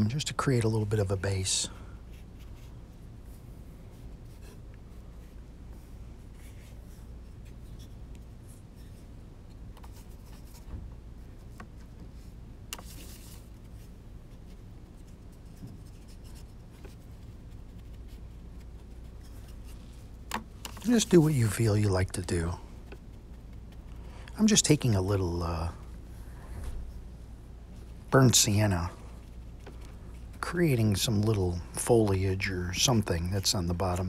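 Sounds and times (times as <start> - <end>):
low room hum: 0.0 - 34.0
paintbrush strokes on paper: 0.4 - 34.0.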